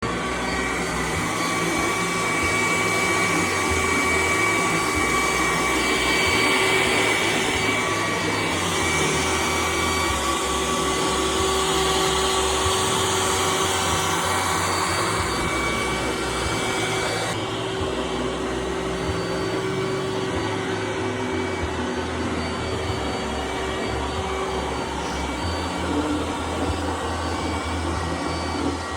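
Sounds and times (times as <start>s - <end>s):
robot vacuum motor whine: 0.0s - 28.9s.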